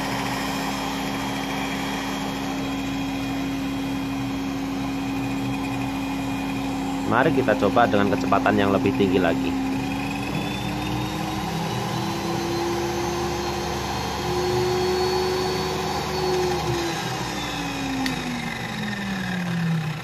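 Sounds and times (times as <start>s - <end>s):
muffled circular saw motor hum: 0.0s - 20.0s.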